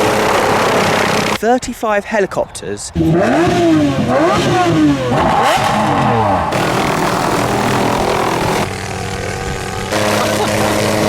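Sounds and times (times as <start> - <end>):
supercar engines revving: 0.0 - 1.4, 2.3 - 11.0.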